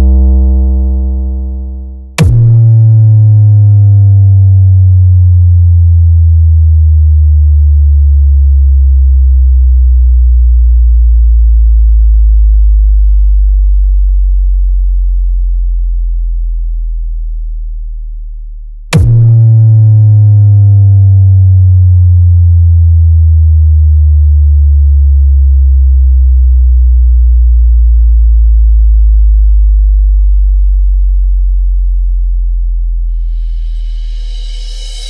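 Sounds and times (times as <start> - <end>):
deep synthesized bass tone: 0.0 - 35.0.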